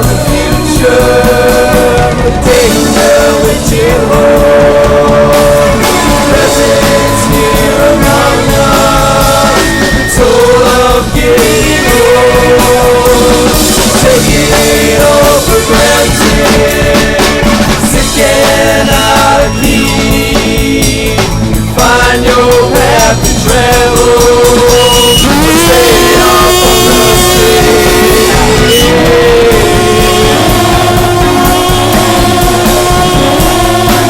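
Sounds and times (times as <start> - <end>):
loud backing track with drums: 0.0 - 34.0
synthesizer lead line bending in pitch: 2.6 - 20.8, 24.2 - 34.0.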